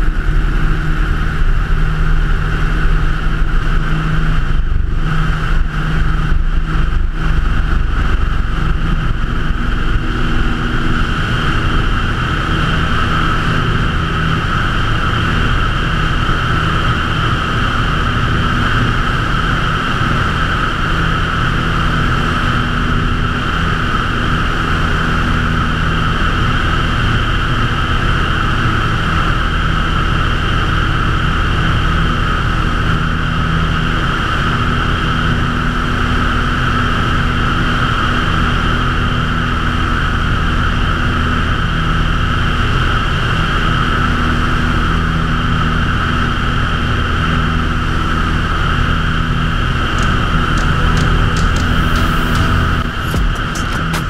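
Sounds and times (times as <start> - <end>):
airplane engine and propeller: 0.0 - 54.0.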